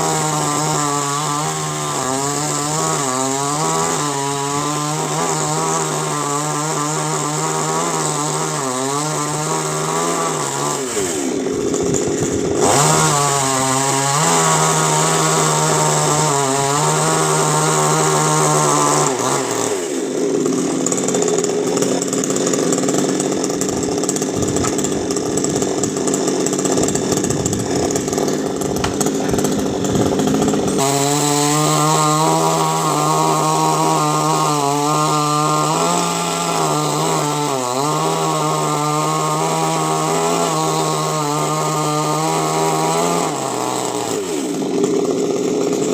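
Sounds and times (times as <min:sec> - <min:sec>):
chainsaw running: 0:00.0 - 0:45.9
chainsaw sawing wood: 0:00.0 - 0:45.9.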